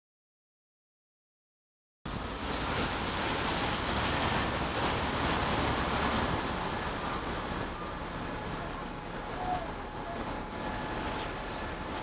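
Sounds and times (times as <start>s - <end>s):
low rumble of city traffic: 2.1s - 12.0s
wind rushing on microphone: 2.1s - 12.0s.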